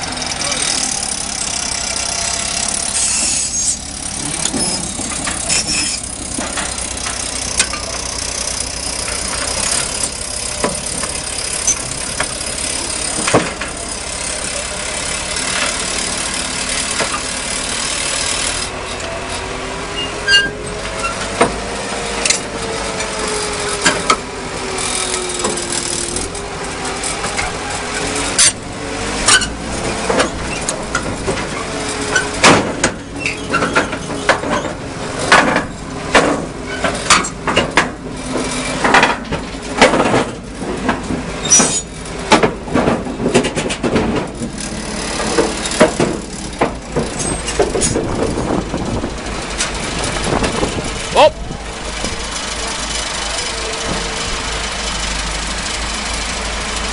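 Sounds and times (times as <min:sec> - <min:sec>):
bulldozer diesel engine: 0:00.0 - 0:56.9
steel tracks clanking: 0:00.0 - 0:56.9.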